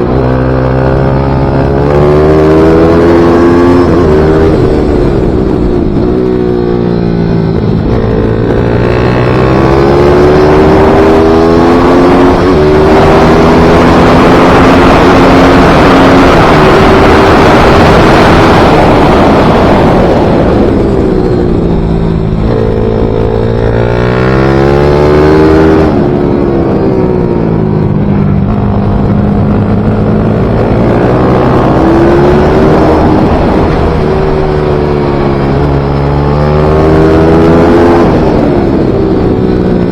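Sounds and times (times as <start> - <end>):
motorcycle engine at full throttle: 0.0 - 39.9
rushing wind noise: 0.0 - 39.9.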